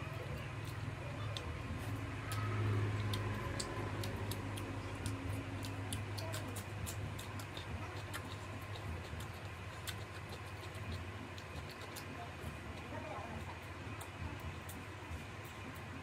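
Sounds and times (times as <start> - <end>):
steady low hum: 0.0 - 16.0
chewing mouth clicks and smacks: 0.4 - 16.0.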